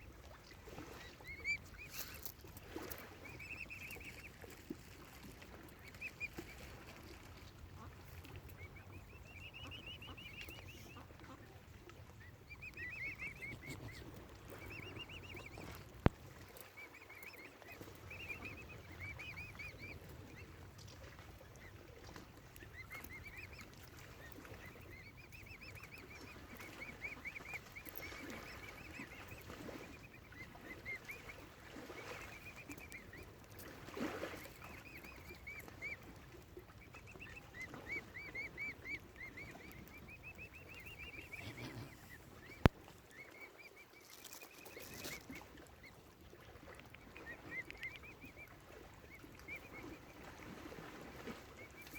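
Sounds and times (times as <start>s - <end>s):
waterfowl calling: 0.8s - 51.9s.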